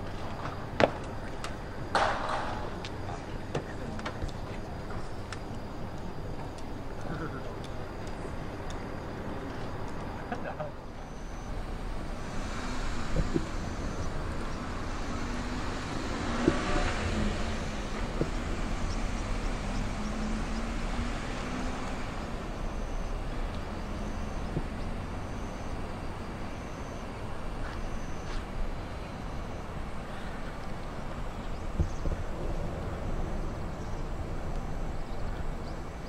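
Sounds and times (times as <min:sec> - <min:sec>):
vehicle passing with low hum: 0:05.0 - 0:36.0.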